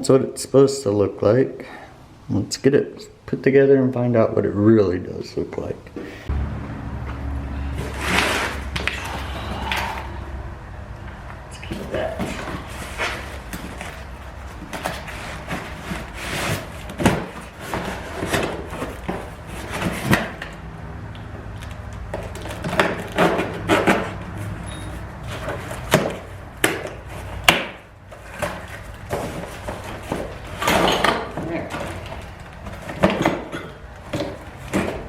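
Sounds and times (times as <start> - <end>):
knocks clunks and scrapes: 6.0 - 20.7, 21.4 - 35.0.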